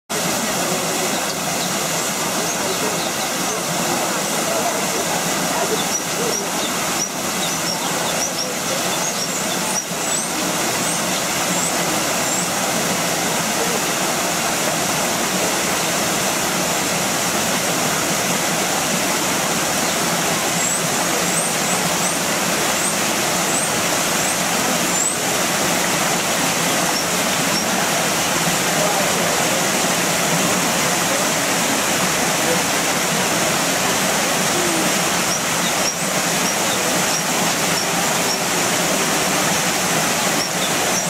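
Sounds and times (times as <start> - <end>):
falling water rushing: 0.1 - 41.0
small birds chirping: 0.3 - 14.6, 19.1 - 41.0.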